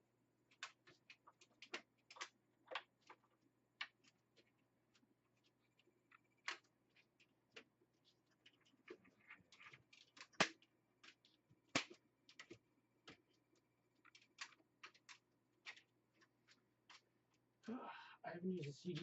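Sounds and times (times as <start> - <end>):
plastic parts clicking: 0.5 - 17.1.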